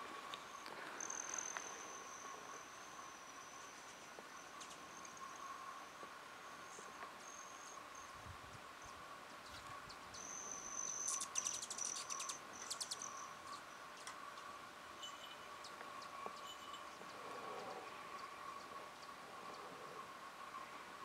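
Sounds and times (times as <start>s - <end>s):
hummingbirds buzzing and chittering: 0.0s - 21.0s.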